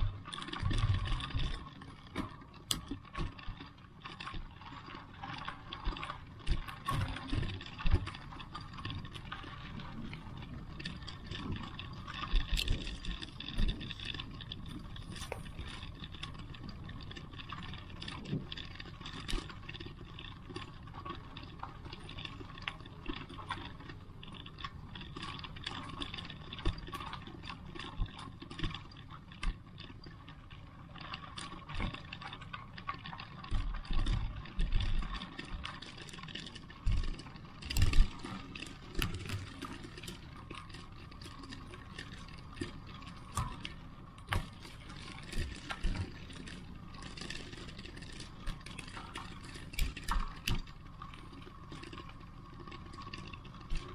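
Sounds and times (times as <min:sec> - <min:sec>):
small clicks and rattles: 0:00.0 - 0:53.9.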